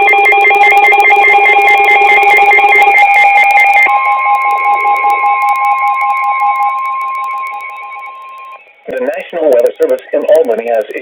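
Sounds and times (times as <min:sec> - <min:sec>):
steady alarm tone: 0:00.0 - 0:11.0
warbling electronic alarm: 0:00.0 - 0:11.0.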